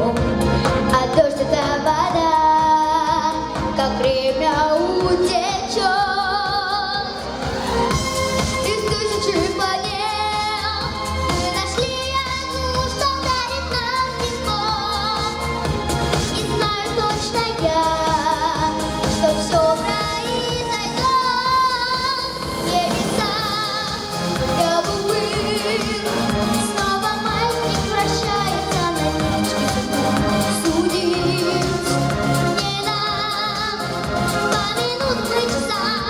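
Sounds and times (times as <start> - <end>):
instrumental backing track: 0.0 - 36.0
woman singing pop ballad: 0.0 - 36.0.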